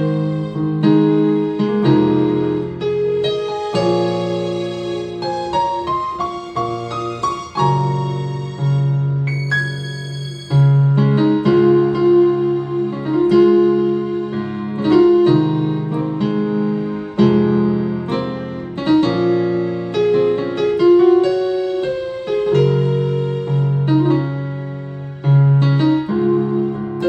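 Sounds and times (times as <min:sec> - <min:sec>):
keyboard piano chords: 0:00.0 - 0:27.0.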